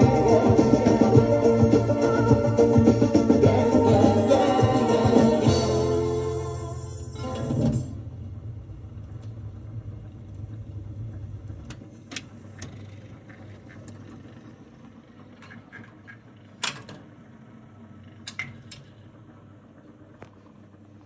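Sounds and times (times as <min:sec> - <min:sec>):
jukebox mechanism hum: 0:00.0 - 0:21.0.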